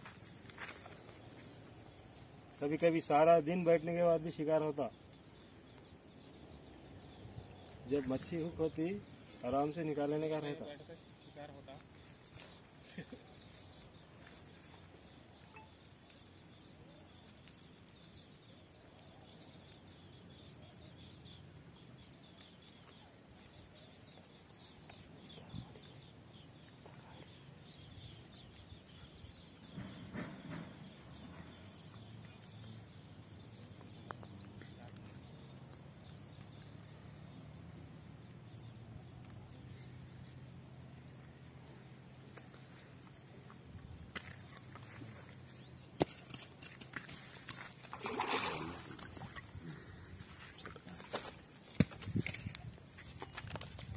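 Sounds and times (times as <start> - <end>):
distant bird chirps: 0.0 - 53.9.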